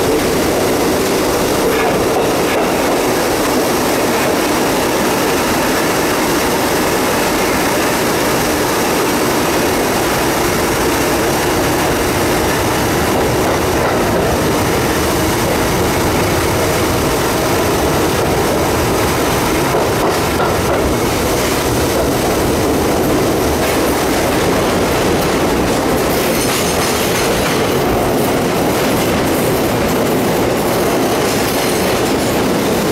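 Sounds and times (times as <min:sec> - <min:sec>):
subway train running in tunnel: 0:00.0 - 0:32.9.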